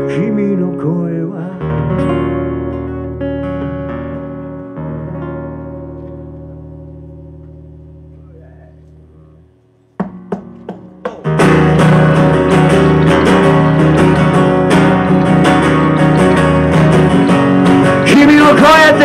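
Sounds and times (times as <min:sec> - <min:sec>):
acoustic guitar strumming: 0:00.0 - 0:19.0
electric bass playing: 0:00.0 - 0:19.0.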